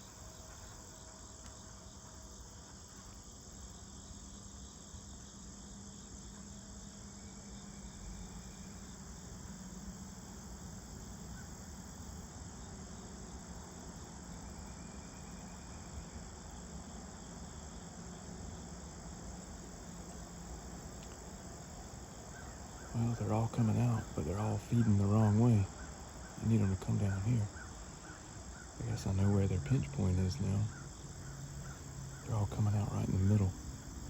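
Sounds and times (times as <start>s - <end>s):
crickets chirring: 0.0s - 34.0s
faint low hum: 0.0s - 34.0s.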